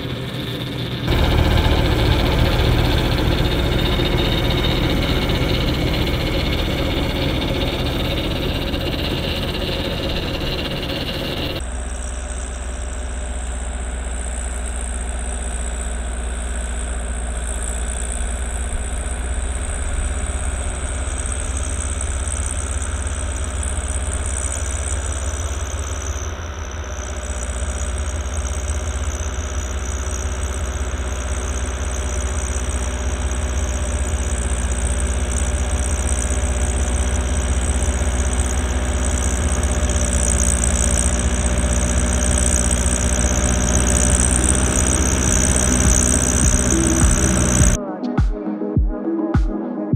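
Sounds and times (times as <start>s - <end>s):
snowblower whirring: 0.0s - 47.8s
tractor engine droning: 0.0s - 47.8s.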